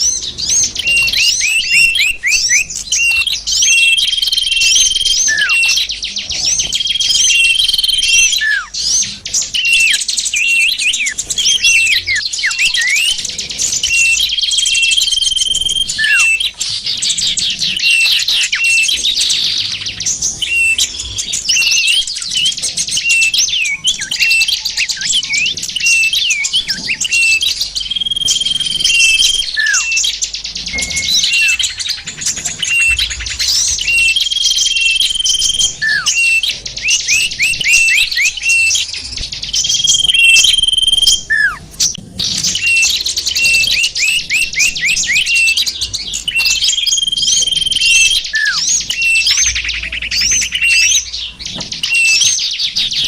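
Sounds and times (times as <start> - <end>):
held bird whistle: 0.0 - 53.0
songbirds twittering and chirping: 0.0 - 53.0.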